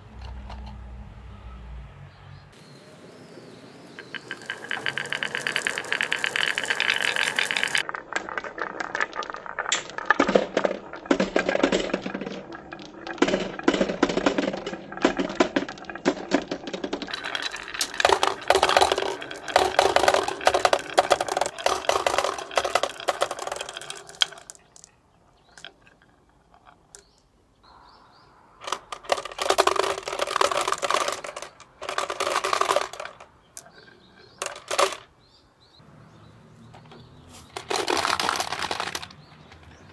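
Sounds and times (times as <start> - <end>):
marbles clattering down wooden track: 3.8 - 27.3, 28.6 - 35.1, 37.4 - 39.9
marbles dropping into plastic toy: 3.9 - 27.3, 28.6 - 35.1, 37.3 - 39.8.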